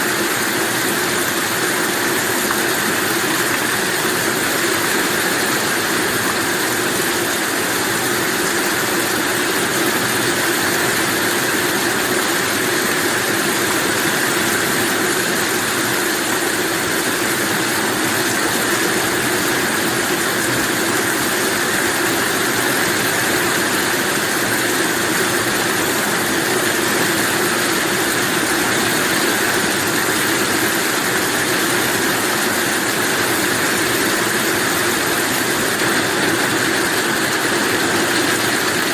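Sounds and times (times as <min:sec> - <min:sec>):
rain falling steadily: 0:00.1 - 0:38.9.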